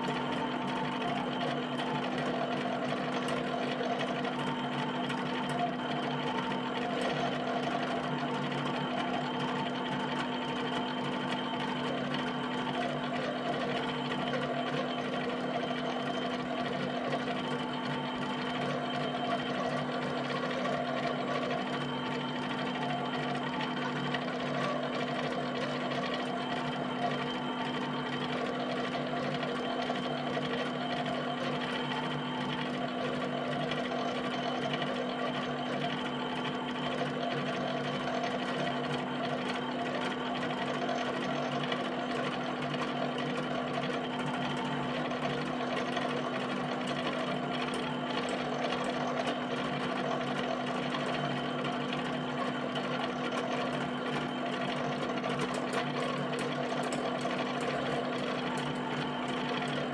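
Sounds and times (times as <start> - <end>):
pen plotter tapping chatter: 0.0 - 59.9.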